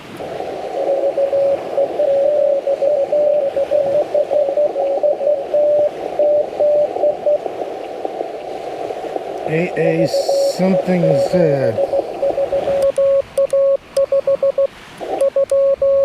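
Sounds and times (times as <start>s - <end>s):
radio hiss: 0.0s - 15.5s
morse code signal: 0.2s - 8.7s, 9.4s - 16.0s.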